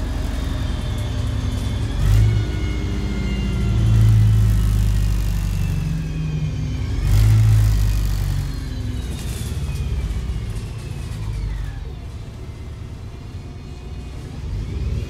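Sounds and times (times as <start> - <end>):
bus diesel engine drone: 0.0 - 15.0
high drivetrain whine: 0.0 - 15.0.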